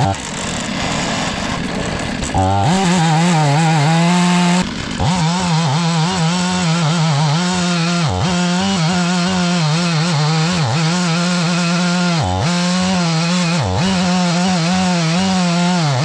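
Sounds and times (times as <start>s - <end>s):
chainsaw ripping a log: 0.0s - 16.0s.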